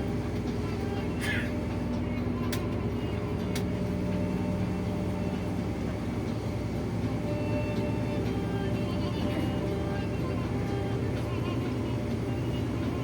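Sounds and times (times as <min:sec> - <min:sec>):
low droning hum: 0:00.0 - 0:13.0
vehicle engine and road rumble: 0:00.0 - 0:13.0.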